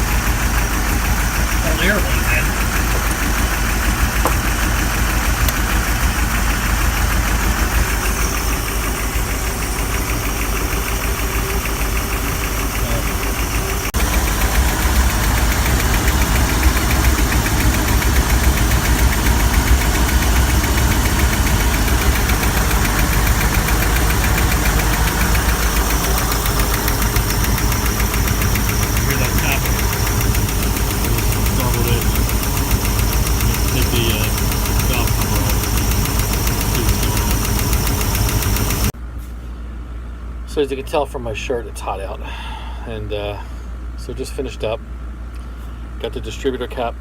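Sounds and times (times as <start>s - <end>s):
boat engine idling: 0.0s - 39.0s
rapid valve ticking: 0.0s - 39.0s.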